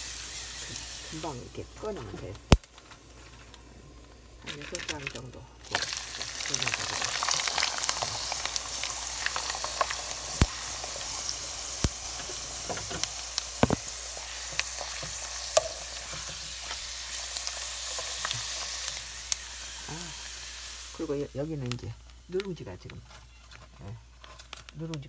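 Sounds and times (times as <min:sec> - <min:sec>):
deep-frying sizzle with pops: 0:00.0 - 0:25.0.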